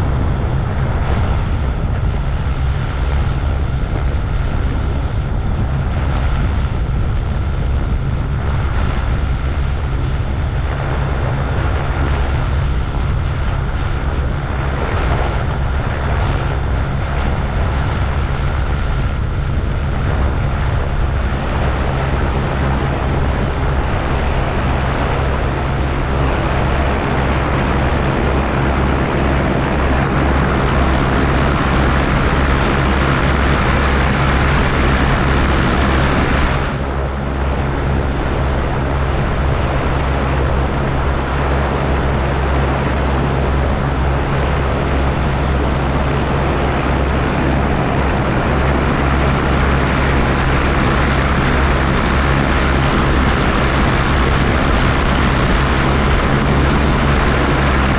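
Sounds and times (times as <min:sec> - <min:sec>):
engine and propeller running: 0:00.0 - 0:57.9.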